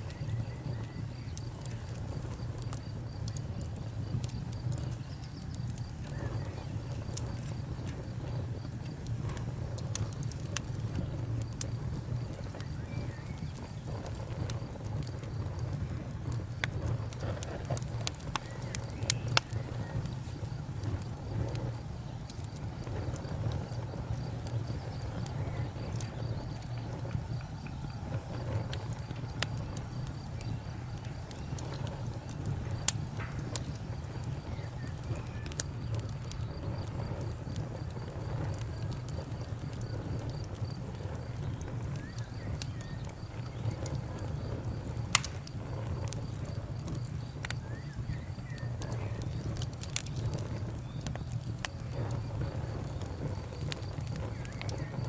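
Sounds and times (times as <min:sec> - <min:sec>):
campfire rumble: 0:00.0 - 0:55.0
fire crackles and pops: 0:00.0 - 0:55.0.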